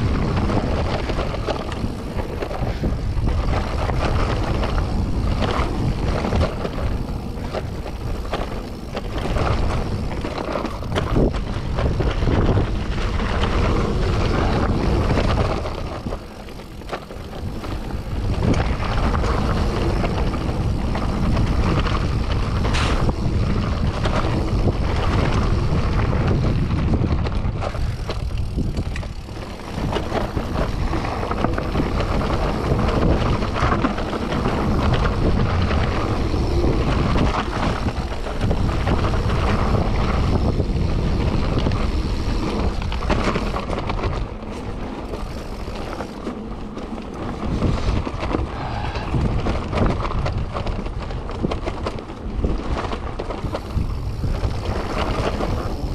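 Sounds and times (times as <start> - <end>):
bike rattling over bumps: 0.0 - 55.9
tyres on wet gravel: 0.0 - 55.9
wind rushing over microphone: 0.0 - 55.9.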